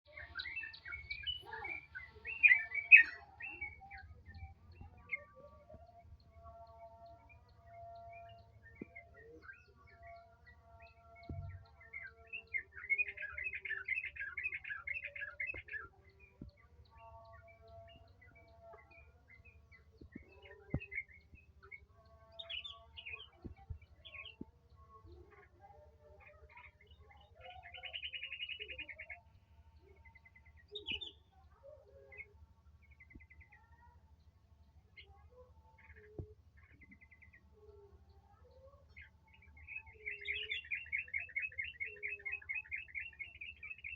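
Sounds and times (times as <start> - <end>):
songbird twittering trills: 0.1 - 43.9.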